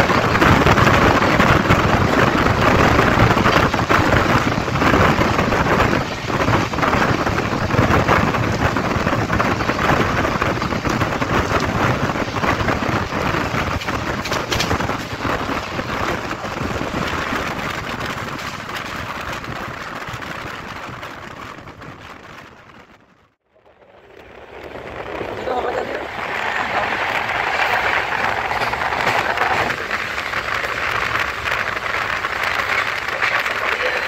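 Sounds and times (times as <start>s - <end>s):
train wheels rumbling on track: 0.0s - 23.0s, 23.6s - 34.0s
rushing wind: 0.0s - 34.0s.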